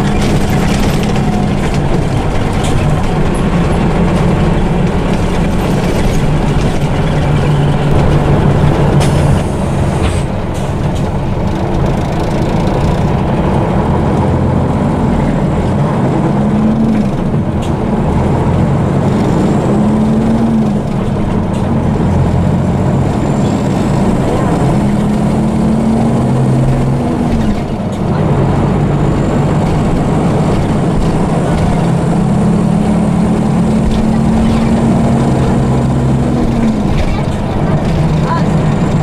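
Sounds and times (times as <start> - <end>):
bus diesel engine running: 0.0 - 39.0
road and tyre noise: 0.0 - 39.0.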